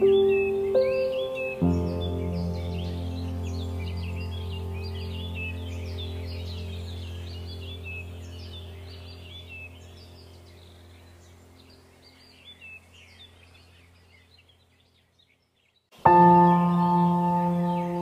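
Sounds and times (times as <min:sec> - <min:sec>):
sustained ringing chord: 0:00.0 - 0:12.8, 0:16.1 - 0:18.0
ambient music with low drone: 0:00.0 - 0:14.1, 0:16.0 - 0:18.0
birdsong chirps: 0:00.0 - 0:18.0.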